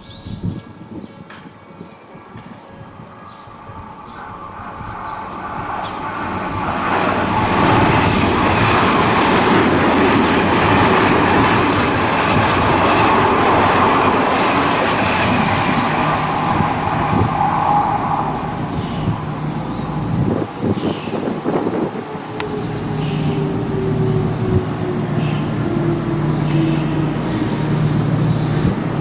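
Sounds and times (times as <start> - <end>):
electric train passing: 0.7 - 29.0.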